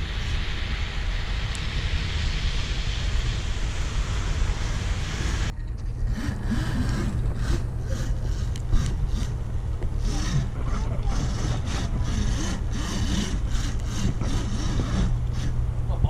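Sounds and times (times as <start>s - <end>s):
steady low hum: 0.0s - 16.0s
wind buffeting microphone: 0.0s - 16.0s.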